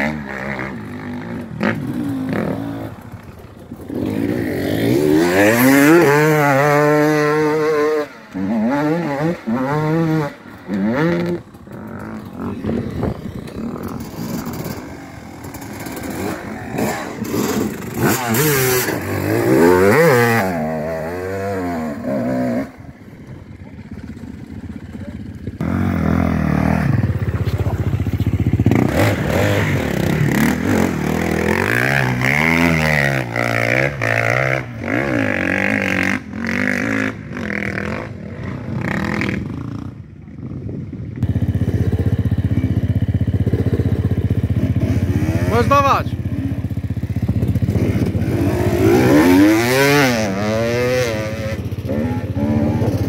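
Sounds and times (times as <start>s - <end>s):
off-road vehicle engine revving: 0.0s - 3.2s, 3.8s - 23.0s, 25.0s - 40.0s, 41.2s - 53.0s.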